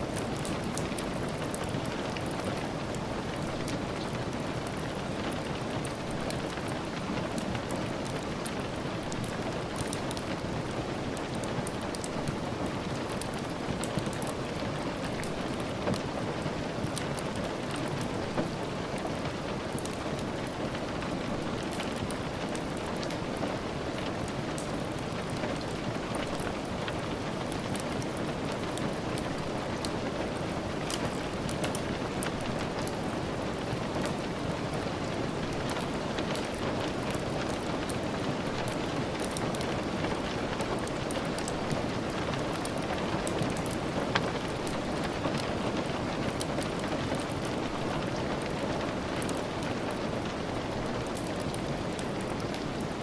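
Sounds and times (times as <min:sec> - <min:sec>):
steady rain: 0:00.0 - 0:53.0
wood fire crackling: 0:00.0 - 0:53.0.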